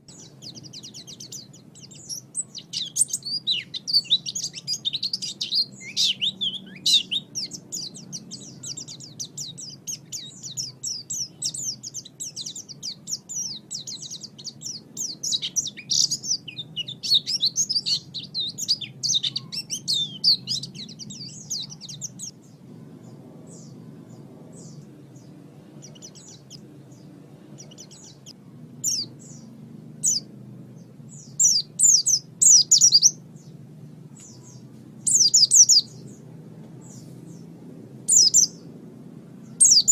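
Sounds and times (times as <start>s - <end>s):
bird twittering: 0.0s - 22.6s, 23.5s - 33.5s, 34.2s - 36.2s, 38.1s - 38.6s, 39.4s - 39.9s
low steady hum: 0.0s - 39.9s.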